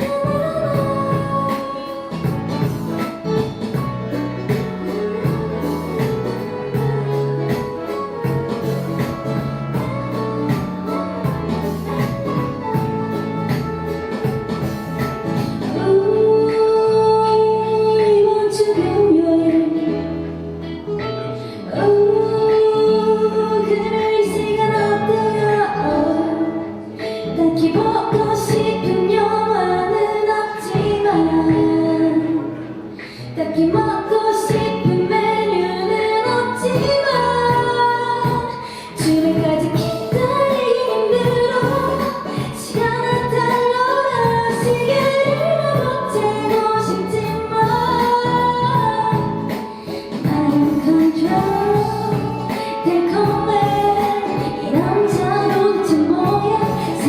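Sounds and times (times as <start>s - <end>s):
instrumental accompaniment: 0.0s - 57.0s
woman singing pop song: 0.0s - 57.0s.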